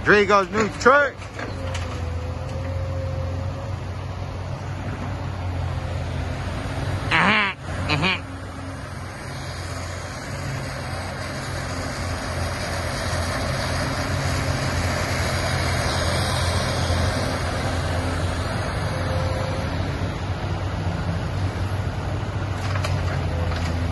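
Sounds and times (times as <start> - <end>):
heavy diesel engines running: 0.0 - 23.9.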